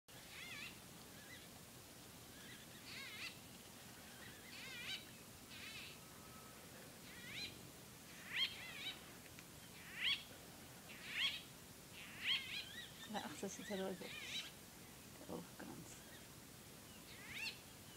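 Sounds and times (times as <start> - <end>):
bird calling: 0.1 - 1.6, 2.2 - 17.9.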